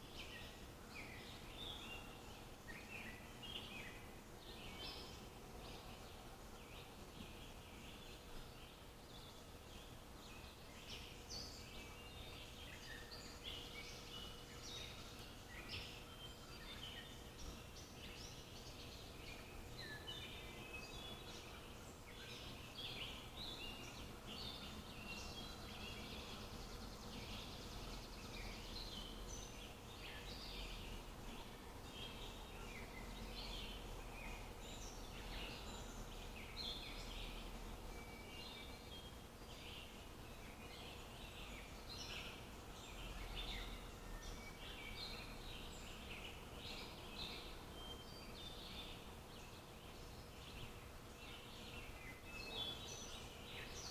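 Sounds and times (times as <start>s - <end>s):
background hiss: 0.0s - 53.9s
low steady hum: 0.0s - 53.9s
small birds chirping: 0.0s - 53.9s.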